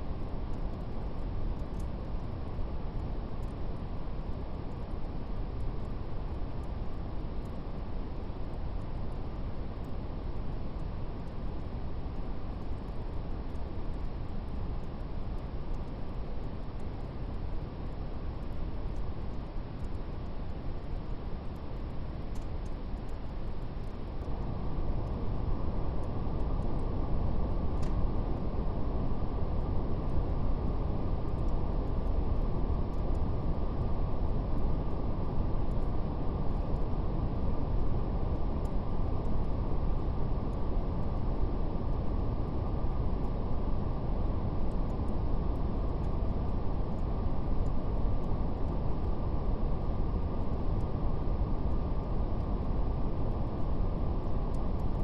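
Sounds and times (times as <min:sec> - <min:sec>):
deep rumbling brown noise: 0:00.0 - 0:55.0
fire crackling softly: 0:00.0 - 0:55.0.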